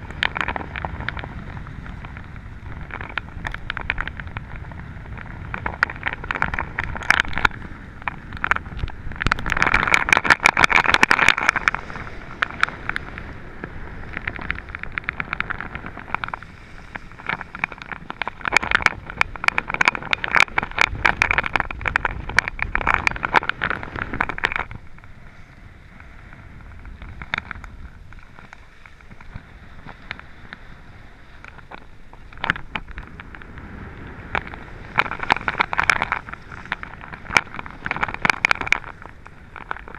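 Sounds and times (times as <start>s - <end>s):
sharp clicks and clatters: 0.0s - 13.3s, 14.0s - 25.1s, 26.6s - 30.6s, 31.4s - 39.9s
skis scraping over snow: 0.0s - 39.9s
wind rumbling on microphone: 0.0s - 39.9s.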